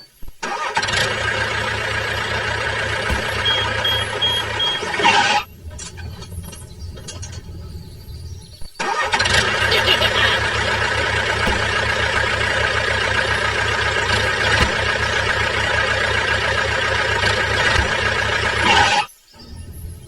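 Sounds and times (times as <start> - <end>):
small engine running: 0.4 - 20.0.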